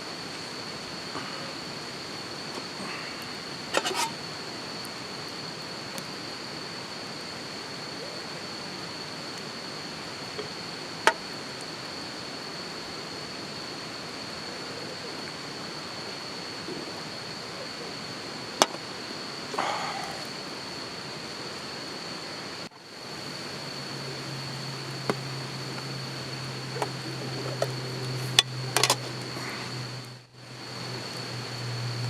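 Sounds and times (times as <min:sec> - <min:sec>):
rushing outdoor noise: 0:00.0 - 0:32.0.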